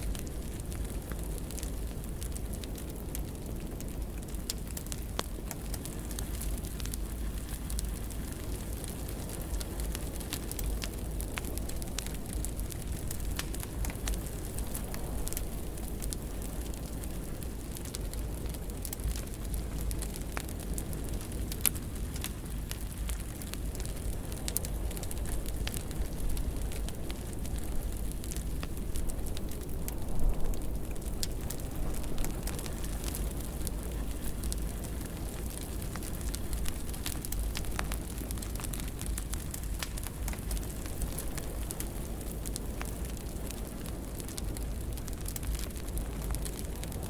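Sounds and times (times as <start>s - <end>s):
fire crackling: 0.0s - 47.0s.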